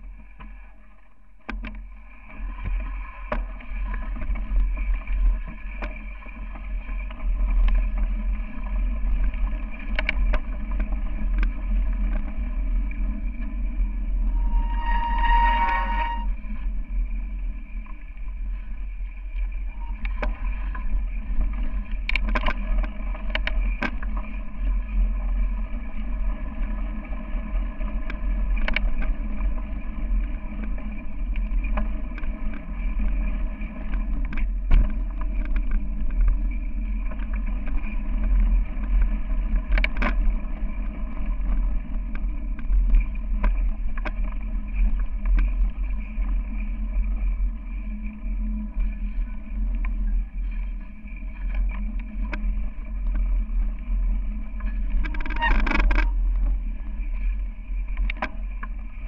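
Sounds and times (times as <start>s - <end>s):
bike rolling over dirt trail: 1.4s - 15.1s, 16.1s - 59.0s
wind on microphone: 1.5s - 59.0s.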